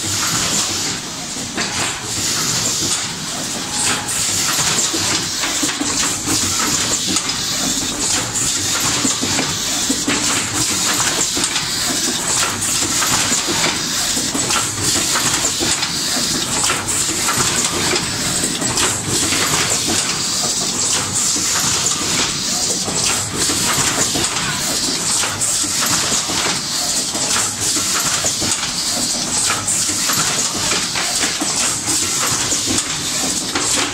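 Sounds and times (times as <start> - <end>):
machine clattering clicks and knocks: 0.0 - 33.9.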